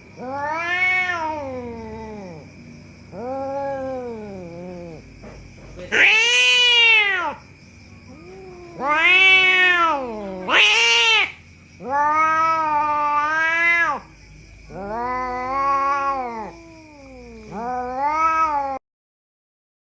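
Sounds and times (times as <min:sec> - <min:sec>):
cat yowling: 0:00.1 - 0:02.5, 0:03.1 - 0:05.0, 0:05.9 - 0:07.4, 0:08.1 - 0:18.8.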